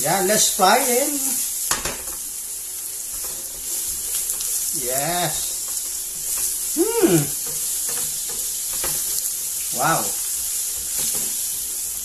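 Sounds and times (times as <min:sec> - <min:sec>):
spatula stirring in pan: 0:00.0 - 0:12.0
vegetables sizzling in pan: 0:00.0 - 0:12.0.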